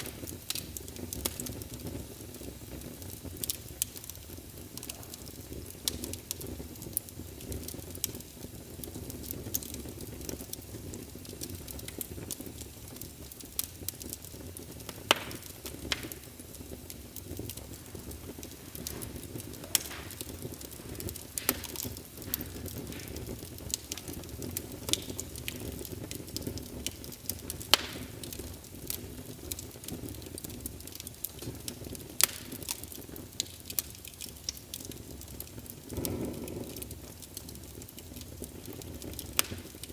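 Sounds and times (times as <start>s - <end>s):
wood fire crackling from speaker: 0.0s - 39.9s.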